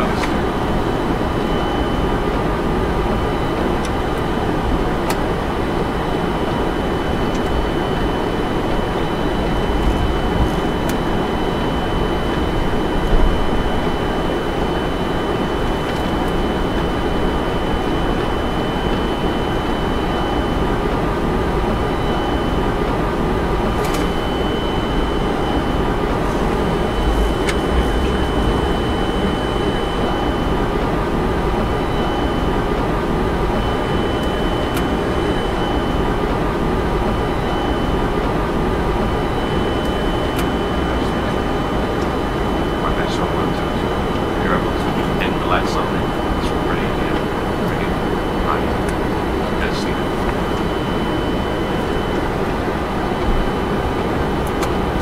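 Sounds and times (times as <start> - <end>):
cockpit ventilation: 0.0 - 55.0
jet engines rumbling at taxi power: 0.0 - 55.0
thin steady high tone: 0.0 - 55.0.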